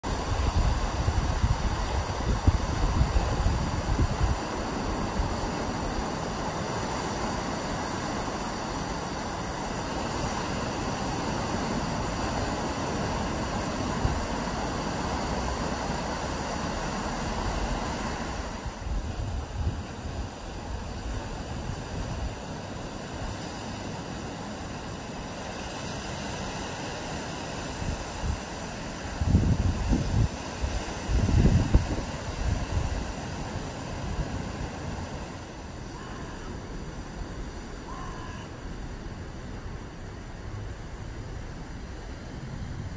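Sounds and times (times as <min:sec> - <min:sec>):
heavy surf breaking on beach: 0:00.0 - 0:42.9
wind buffeting microphone: 0:00.0 - 0:42.9.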